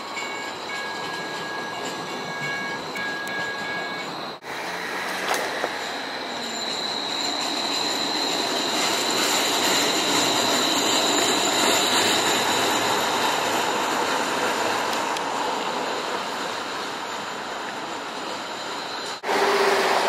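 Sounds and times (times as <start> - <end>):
streetcar running noise: 0.0 - 20.0
streetcar wheels squealing on rails: 0.0 - 20.0.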